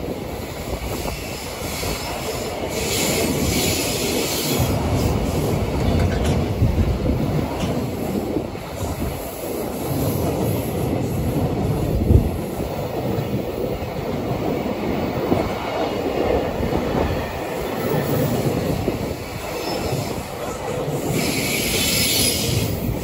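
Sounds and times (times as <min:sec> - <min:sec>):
train wagons rumbling over rails: 0:00.0 - 0:23.0.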